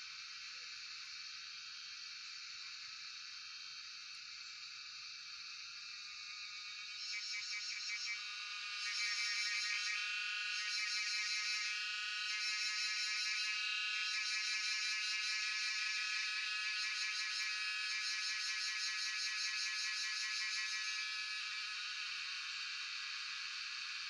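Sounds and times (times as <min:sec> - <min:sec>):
cicadas buzzing: 0:00.0 - 0:24.0.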